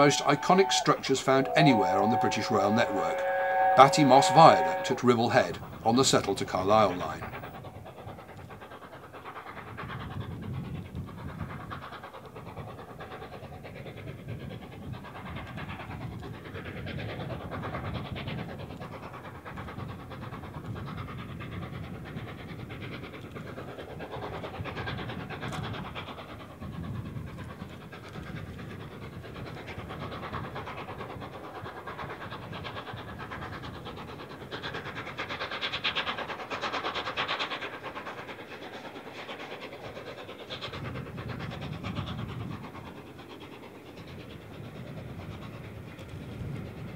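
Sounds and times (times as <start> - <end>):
steam locomotive exhaust: 0.0 - 46.9
train running: 0.0 - 46.9.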